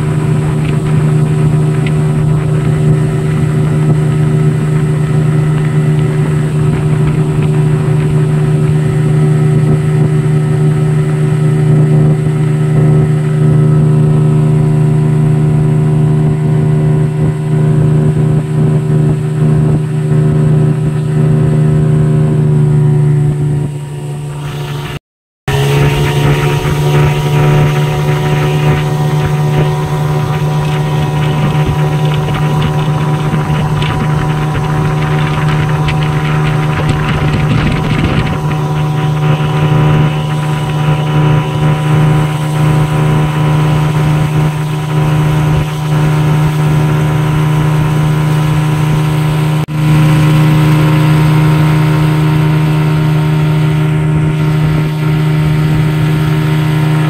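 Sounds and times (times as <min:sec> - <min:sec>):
outboard motor running: 0:00.0 - 0:57.0
water rushing past hull: 0:00.0 - 0:57.0
water splashing: 0:00.0 - 0:57.0
wind: 0:00.0 - 0:57.0.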